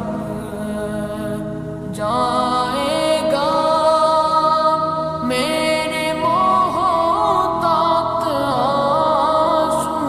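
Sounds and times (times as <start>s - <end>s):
man singing with heavy reverb: 0.0s - 10.0s.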